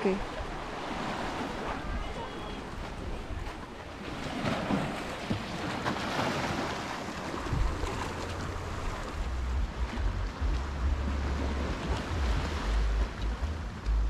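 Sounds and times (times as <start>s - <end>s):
waves washing over rocks: 0.0s - 14.0s
wind buffeting microphone: 0.2s - 14.0s.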